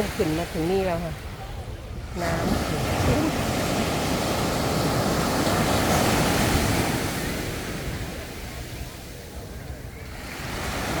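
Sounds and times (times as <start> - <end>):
sea waves breaking on beach: 0.0 - 11.0.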